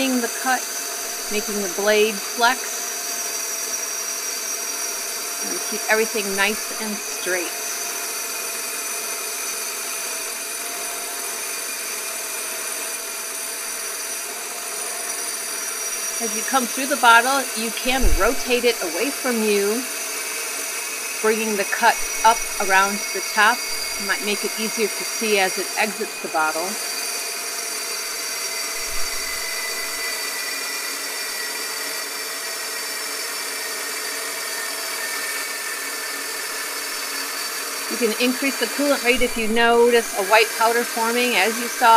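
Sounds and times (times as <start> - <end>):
band saw whining: 0.0 - 41.9.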